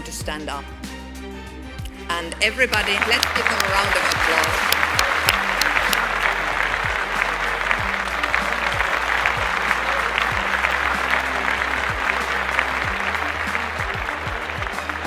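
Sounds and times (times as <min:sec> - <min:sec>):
background music: 0:00.0 - 0:15.0
audience applauding: 0:02.8 - 0:15.0.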